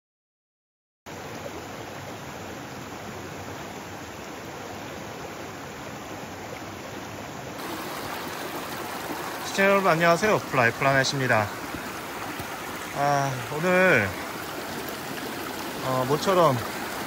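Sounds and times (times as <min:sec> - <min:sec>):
stream running over rocks: 0:01.1 - 0:17.0.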